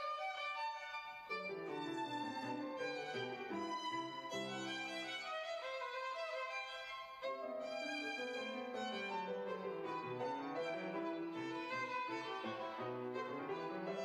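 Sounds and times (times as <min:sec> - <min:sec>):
piano accompaniment: 0:00.0 - 0:14.0
violin: 0:00.0 - 0:14.0.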